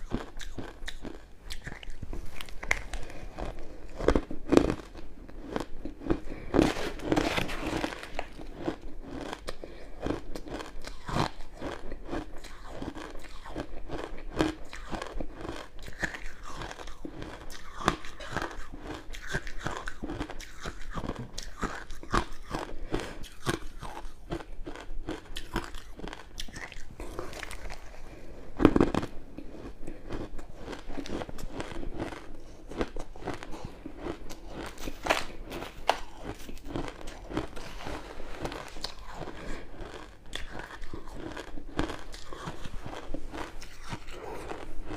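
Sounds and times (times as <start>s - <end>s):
crushed ice being chewed: 0.0s - 44.9s.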